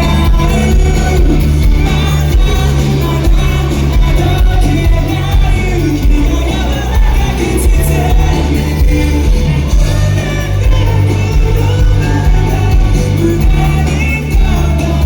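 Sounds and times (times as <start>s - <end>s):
live rock band with singing: 0.0s - 15.0s.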